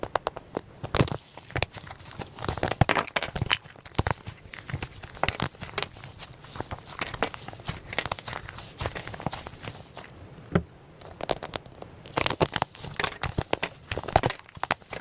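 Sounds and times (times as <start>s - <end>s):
foam slime crackling and popping: 0.0s - 10.1s, 11.0s - 15.0s.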